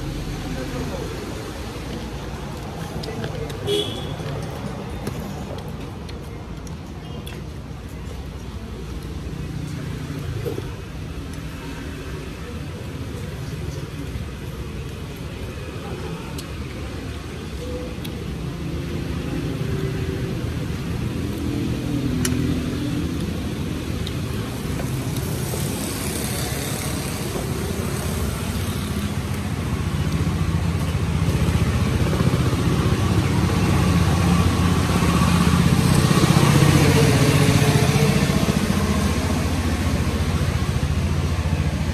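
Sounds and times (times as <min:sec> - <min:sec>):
motorbikes and cars passing: 0:00.0 - 0:41.9.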